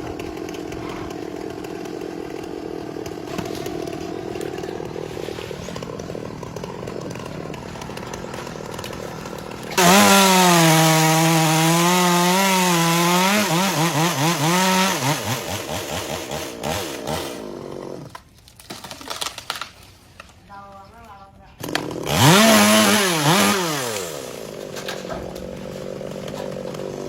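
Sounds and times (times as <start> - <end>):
chainsaw running: 0.0 - 18.3, 21.6 - 27.0.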